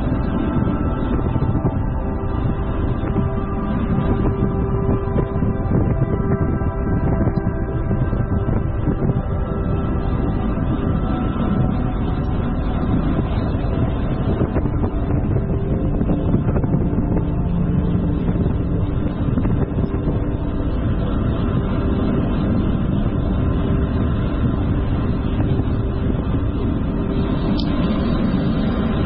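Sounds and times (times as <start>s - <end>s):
constant low rumble: 0.0s - 29.0s
wind noise on microphone: 0.0s - 29.0s.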